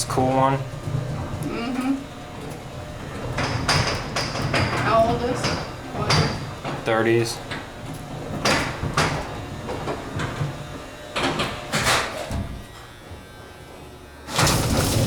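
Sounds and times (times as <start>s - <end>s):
elevator doors sliding and rattling: 0.0s - 13.2s, 14.3s - 15.0s.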